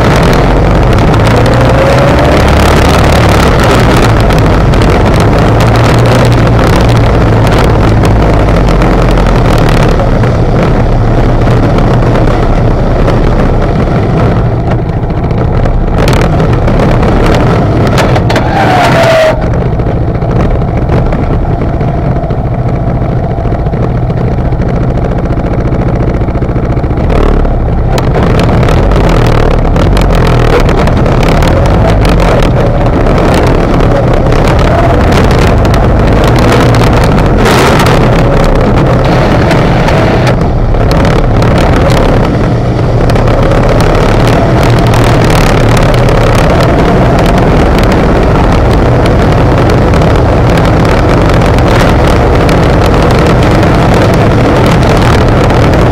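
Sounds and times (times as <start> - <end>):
atv engine running under load: 0.0 - 55.9
wind on microphone: 0.0 - 55.9.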